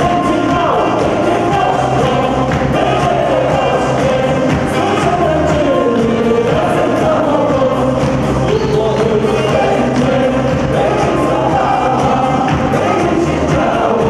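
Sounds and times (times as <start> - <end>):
bass line: 0.0 - 14.0
drum beat: 0.0 - 14.0
person singing: 0.0 - 14.0.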